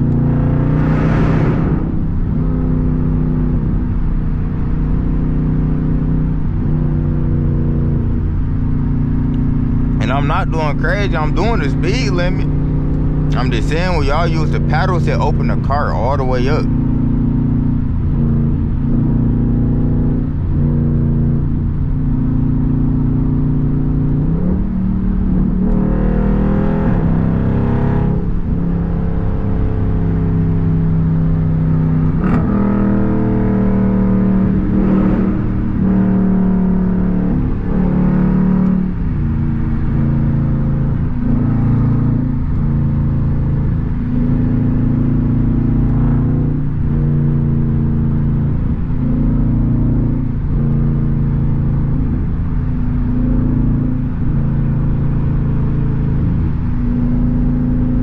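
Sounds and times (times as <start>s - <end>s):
car exhaust droning: 0.0s - 58.0s.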